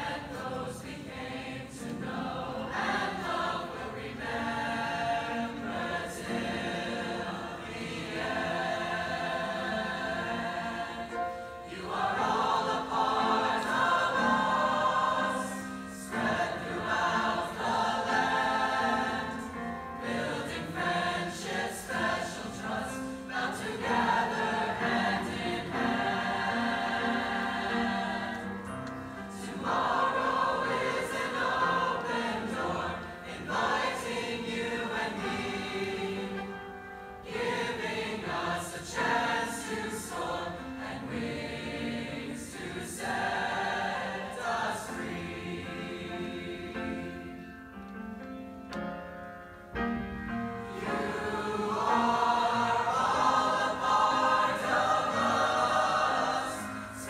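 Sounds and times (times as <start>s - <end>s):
mixed choir singing: 0.0s - 47.8s, 50.3s - 57.0s.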